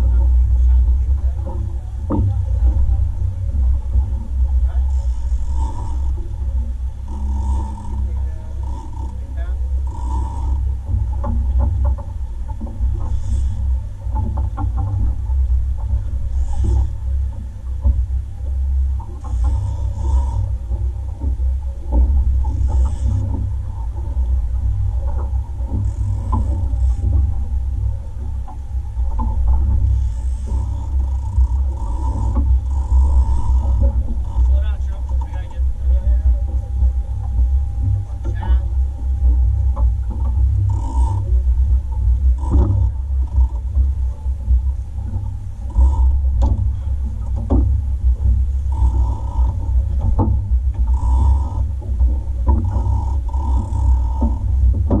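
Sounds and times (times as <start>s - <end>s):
boat engine low rumble: 0.0s - 55.0s
outboard motor running: 0.0s - 55.0s
small knocks: 7.1s - 18.1s, 19.0s - 55.0s.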